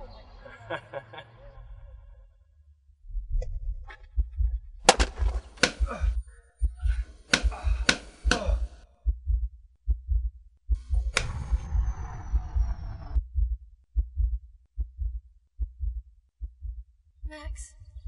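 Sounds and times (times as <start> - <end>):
heartbeat thumps: 3.1 - 18.0.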